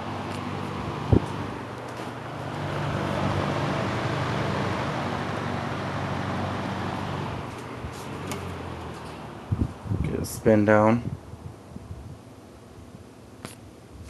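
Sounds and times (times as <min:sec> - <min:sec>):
low motor hum: 0:00.0 - 0:12.2
box fan air rushing: 0:00.0 - 0:14.0.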